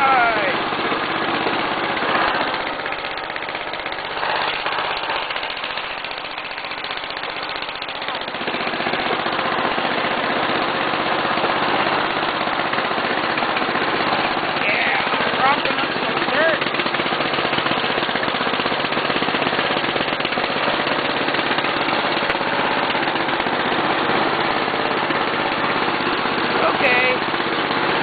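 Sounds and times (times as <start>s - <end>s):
riding tractor engine running: 0.0s - 28.0s.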